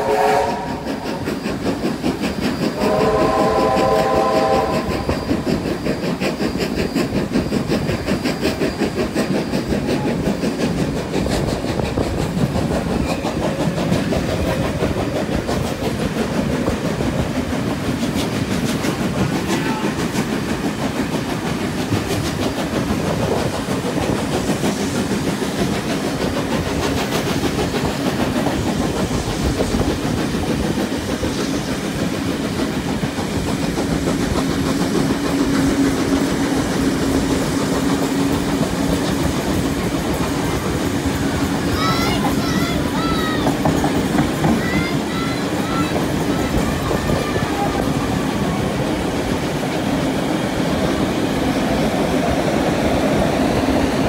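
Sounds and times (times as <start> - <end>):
steam locomotive exhaust: 0.0 - 54.0
train wheels clattering over rails: 0.0 - 54.0.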